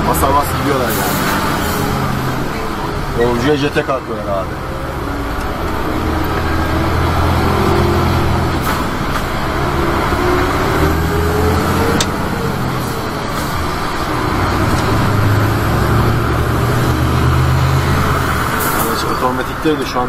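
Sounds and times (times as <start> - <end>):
truck diesel engine running: 0.0 - 20.0.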